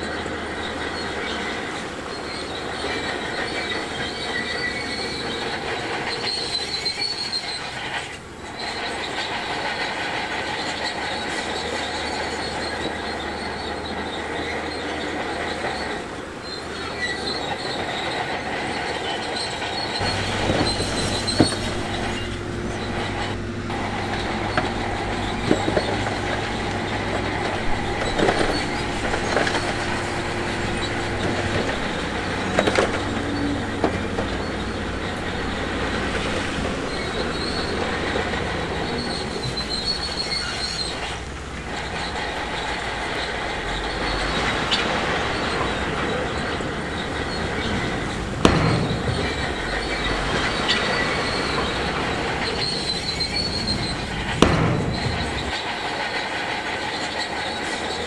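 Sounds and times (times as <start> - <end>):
bulldozer engine running: 0.0 - 58.0
steel tracks clattering and squealing: 0.0 - 58.0.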